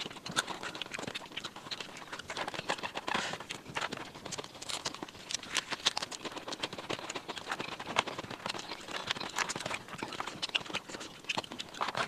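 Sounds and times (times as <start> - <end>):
chewing with wet mouth clicks: 0.0 - 12.0
small crunches: 0.0 - 12.0.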